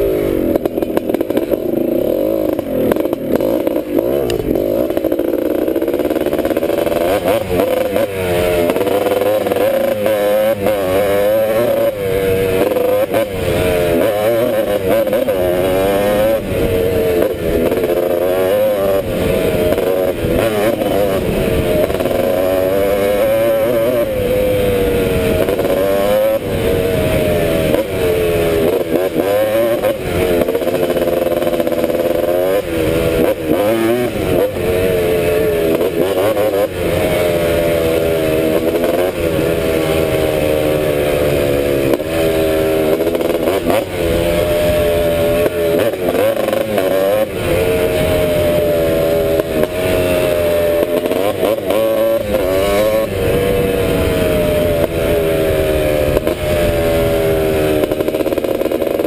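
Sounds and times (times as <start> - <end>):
two-stroke engine revving: 0.0 - 59.0.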